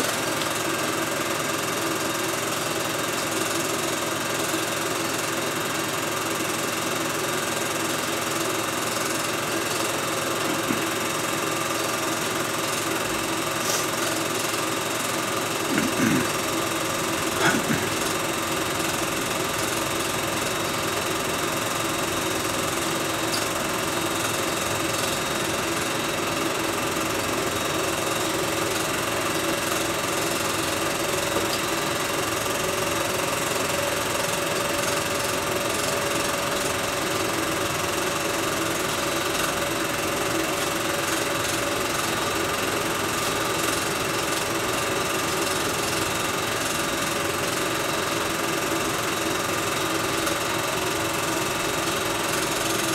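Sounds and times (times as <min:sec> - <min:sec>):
film projector whirring: 0:00.0 - 0:52.9.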